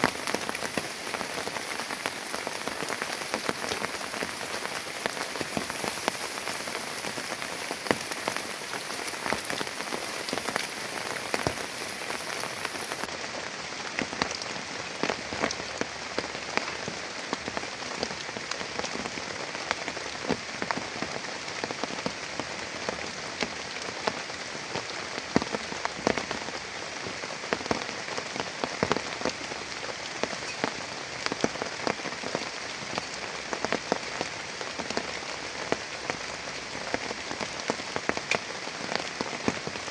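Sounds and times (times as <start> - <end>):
heavy rain falling: 0.0 - 39.9
raindrops hitting a surface: 0.0 - 39.9.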